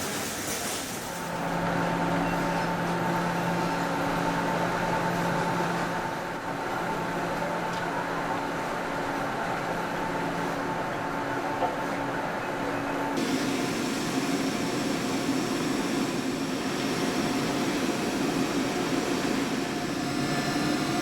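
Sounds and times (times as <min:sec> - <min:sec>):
factory machinery humming: 0:00.0 - 0:21.0.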